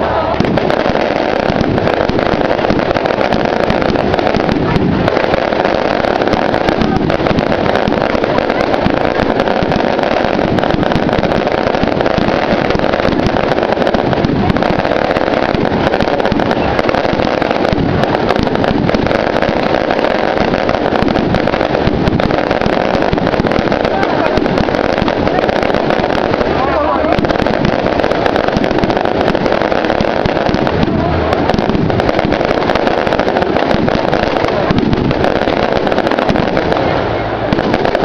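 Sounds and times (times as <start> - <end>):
bonfire crackling: 0.0 - 38.0.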